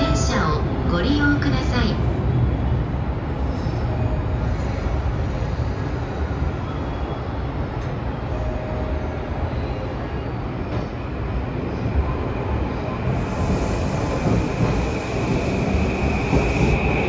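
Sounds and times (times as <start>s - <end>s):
electric train wheels rumbling: 0.0s - 17.0s.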